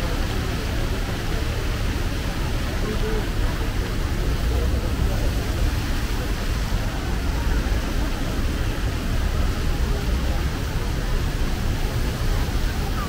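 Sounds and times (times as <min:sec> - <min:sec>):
crowd voices: 0:00.0 - 0:13.0
traffic noise: 0:00.0 - 0:13.0.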